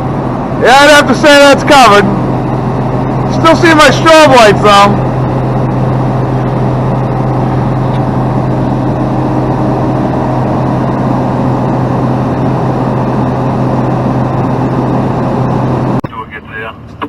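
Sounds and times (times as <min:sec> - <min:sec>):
diesel truck engine idling: 0:00.0 - 0:16.8.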